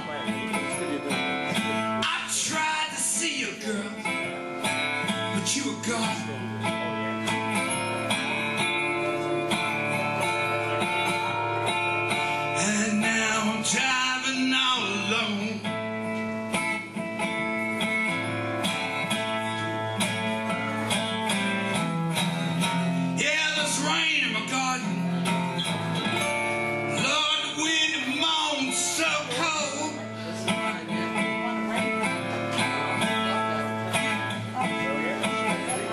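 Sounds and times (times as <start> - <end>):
resonator guitar strummed and picked: 0.0 - 35.9.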